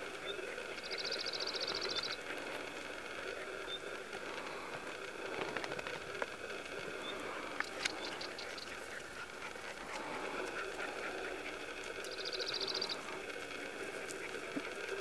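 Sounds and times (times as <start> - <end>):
rustling through brush: 0.0 - 15.0.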